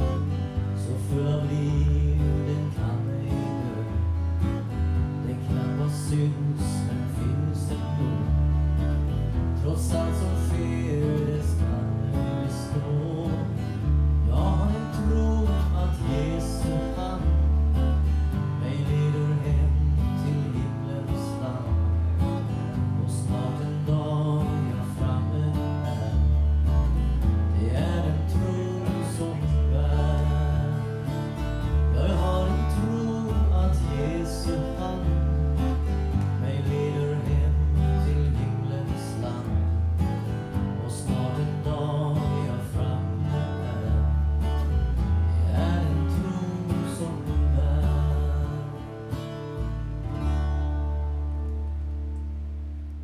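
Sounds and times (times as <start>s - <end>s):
acoustic guitar strumming: 0.0s - 53.0s
electric bass guitar line: 0.0s - 53.0s.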